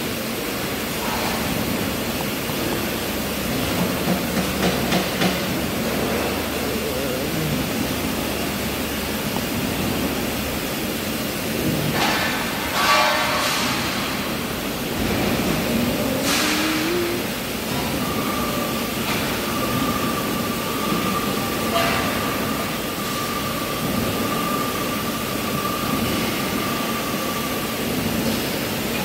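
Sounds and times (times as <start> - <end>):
factory machinery running: 0.0 - 29.0.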